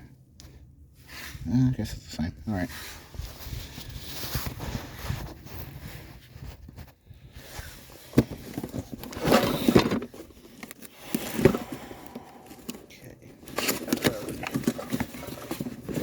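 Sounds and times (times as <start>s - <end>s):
scraping and rustling: 2.8s - 16.0s.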